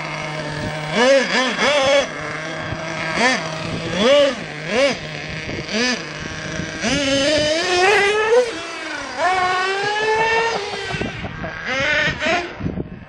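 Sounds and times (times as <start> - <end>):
small glow engine revving: 0.0 - 12.7.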